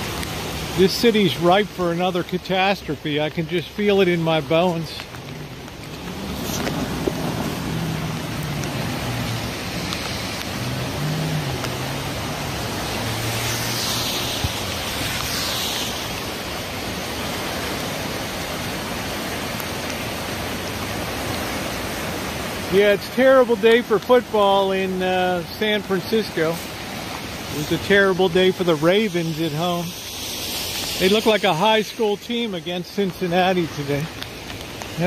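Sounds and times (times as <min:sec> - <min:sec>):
flooded creek rushing: 0:00.0 - 0:35.0
rain falling: 0:00.0 - 0:35.0.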